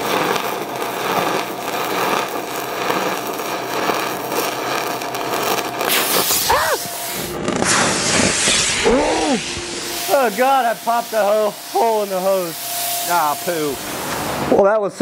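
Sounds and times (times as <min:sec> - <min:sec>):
welding arc crackling: 0:00.0 - 0:14.8.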